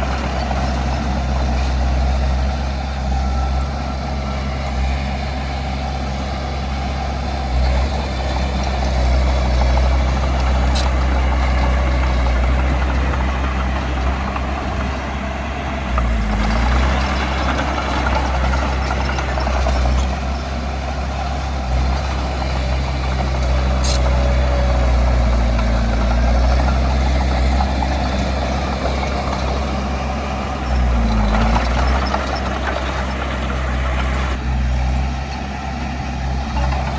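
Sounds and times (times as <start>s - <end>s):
heavy diesel machinery engine: 0.0s - 36.9s.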